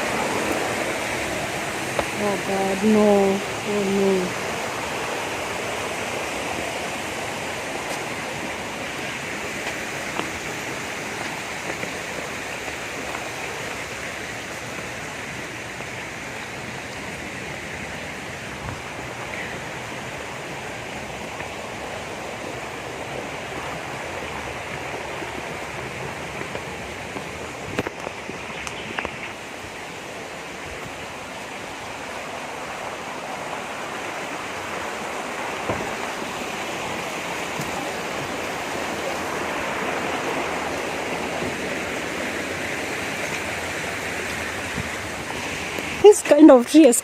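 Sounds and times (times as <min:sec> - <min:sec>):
river rushing: 0:00.0 - 0:47.0.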